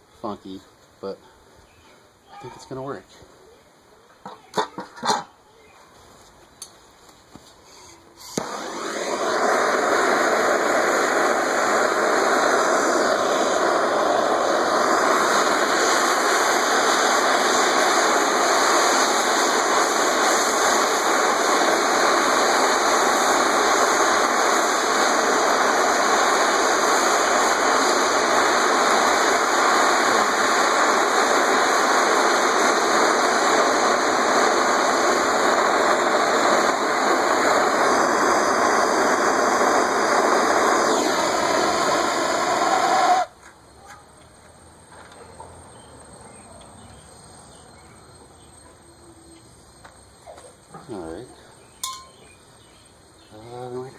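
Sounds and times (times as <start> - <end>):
propane torch hissing: 6.5 - 43.5, 45.7 - 53.9.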